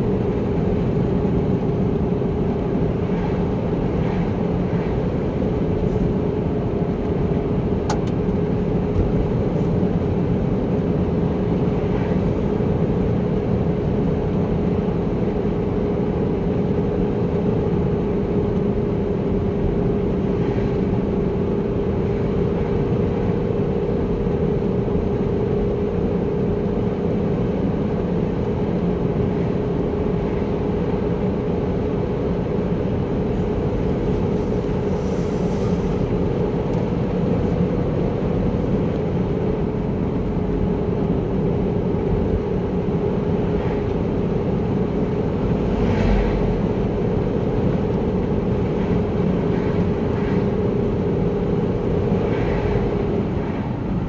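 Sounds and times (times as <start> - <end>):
car engine and tyre hum: 0.0 - 54.0.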